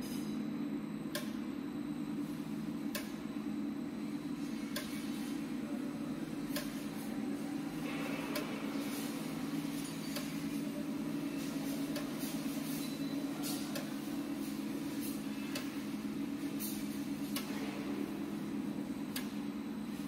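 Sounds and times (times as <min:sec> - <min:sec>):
positioner motors humming: 0:00.0 - 0:20.0.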